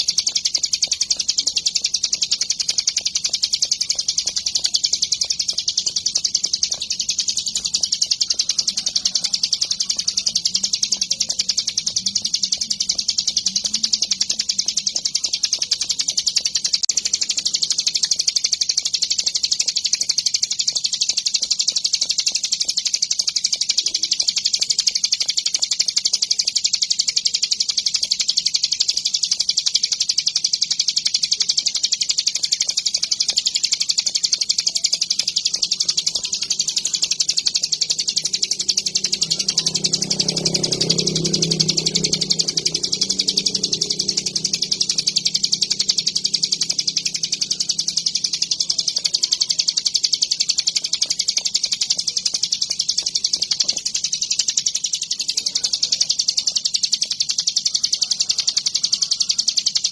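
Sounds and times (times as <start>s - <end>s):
bird singing high trill: 0.0s - 59.9s.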